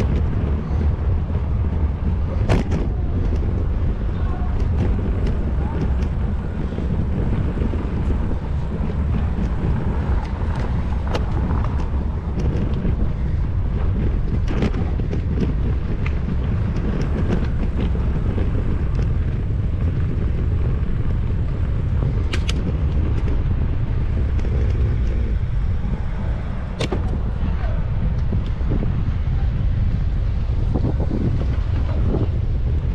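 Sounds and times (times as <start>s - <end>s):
bicycle clicks and rattles: 0.0s - 32.9s
wind rumbling on microphone: 0.0s - 32.9s.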